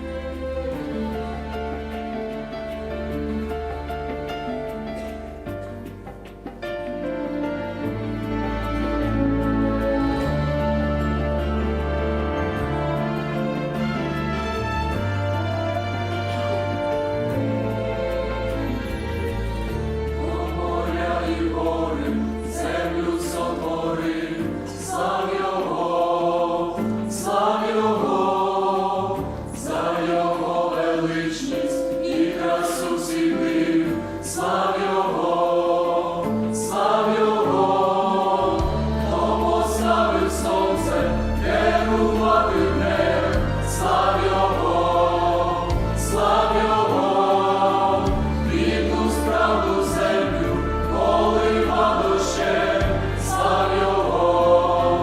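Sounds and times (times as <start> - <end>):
choir singing a hymn: 0.0 - 5.6, 7.7 - 55.0.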